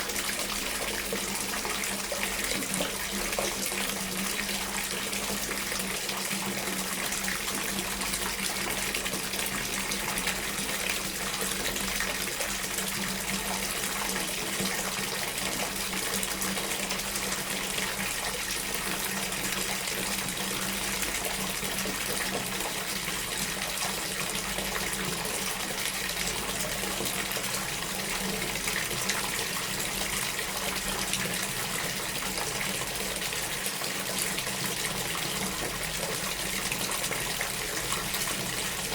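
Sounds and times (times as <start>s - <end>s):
water running: 0.0s - 38.9s.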